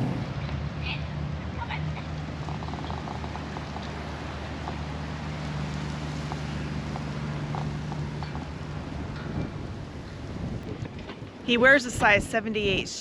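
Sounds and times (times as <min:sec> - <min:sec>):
low engine hum: 0:00.0 - 0:12.9.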